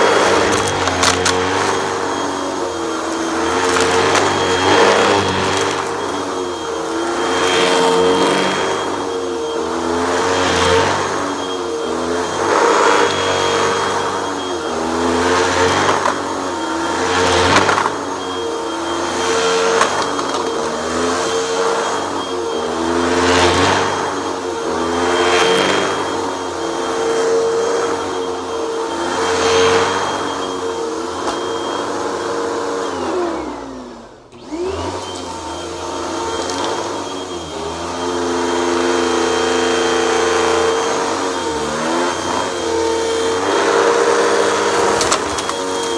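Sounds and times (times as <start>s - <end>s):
vacuum cleaner on carpet: 0.0s - 45.9s.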